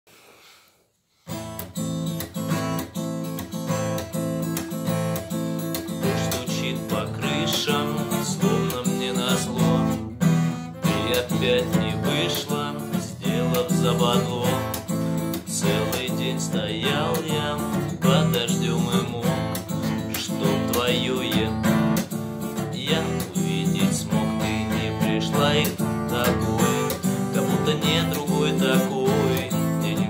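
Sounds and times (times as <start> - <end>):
acoustic guitar strumming chords: 1.3 - 30.0.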